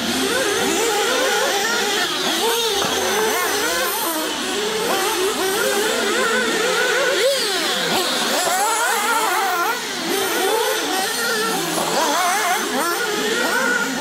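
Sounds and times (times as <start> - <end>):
rc car engines revving: 0.0 - 14.0.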